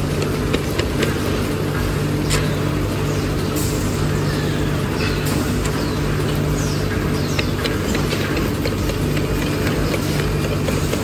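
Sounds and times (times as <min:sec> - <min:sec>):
machine motor hum: 0:00.0 - 0:11.0.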